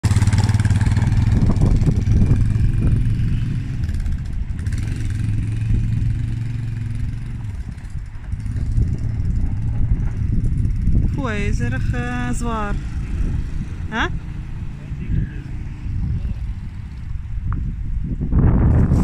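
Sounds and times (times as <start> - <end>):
quad bike engine driving off: 0.0 - 17.6.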